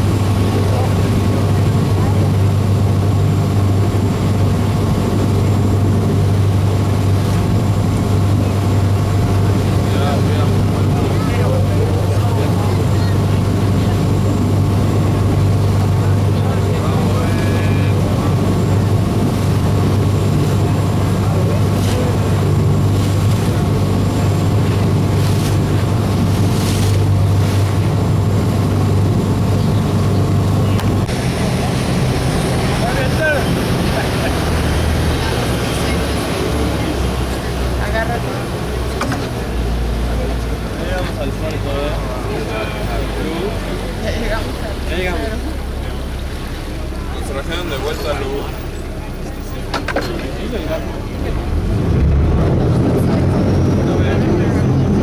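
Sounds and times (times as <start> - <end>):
ship engine drone: 0.0 - 55.0
water rushing along hull: 0.0 - 55.0.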